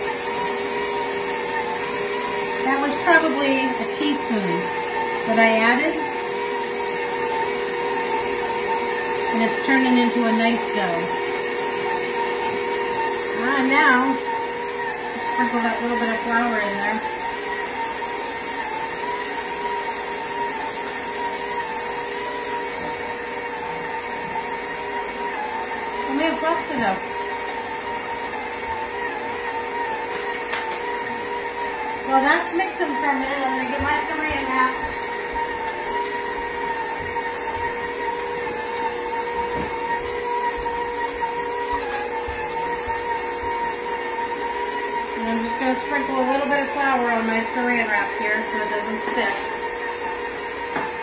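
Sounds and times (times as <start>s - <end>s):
stand mixer motor humming: 0.0s - 51.0s.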